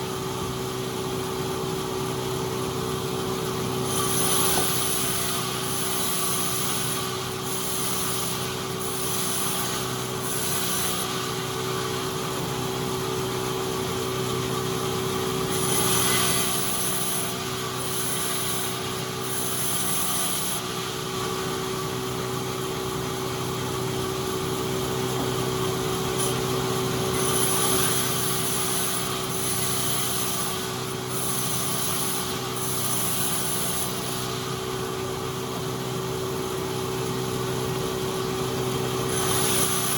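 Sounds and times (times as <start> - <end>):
sawmill machinery hum: 0.0 - 39.9.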